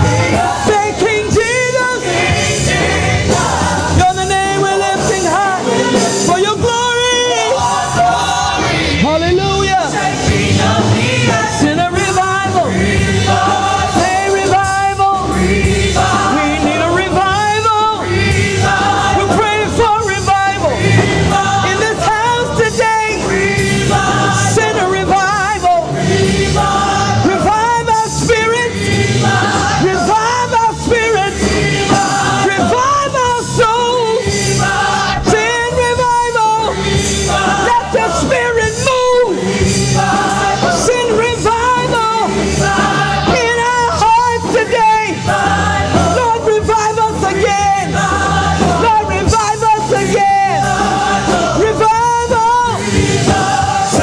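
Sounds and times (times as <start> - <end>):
backing singers: 0.0 - 54.0
instrumental accompaniment: 0.0 - 54.0.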